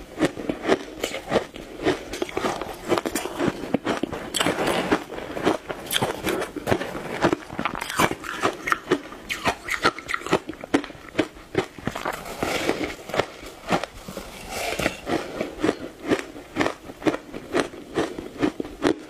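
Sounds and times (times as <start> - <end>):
ice being chewed: 0.1 - 19.0.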